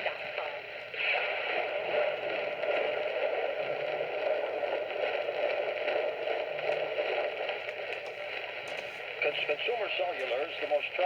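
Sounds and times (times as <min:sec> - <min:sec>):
radio static hiss and crackle: 0:00.0 - 0:11.0.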